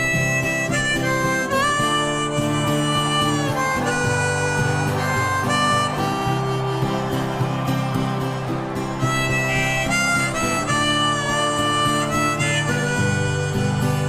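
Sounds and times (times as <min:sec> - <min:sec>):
harmonica melody: 0:00.0 - 0:14.0
strummed acoustic guitar: 0:00.0 - 0:14.0.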